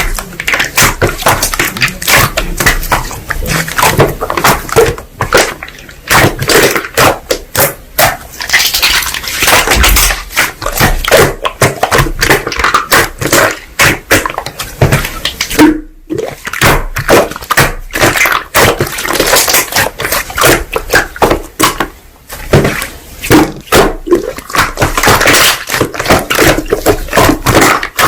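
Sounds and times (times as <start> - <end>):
slime squelching: 0.0 - 28.0.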